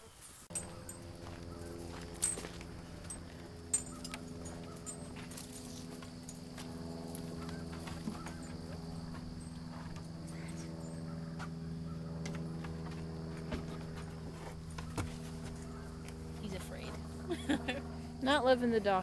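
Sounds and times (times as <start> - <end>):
thin high buzz: 0.0 - 18.6
steady low hum: 0.5 - 19.0.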